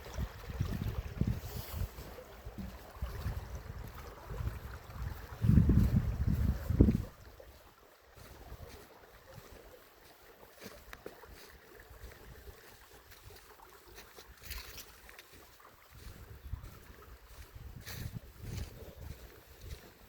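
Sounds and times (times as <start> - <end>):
river water gurgling over stones: 0.0 - 20.0
water splashes: 0.0 - 20.0.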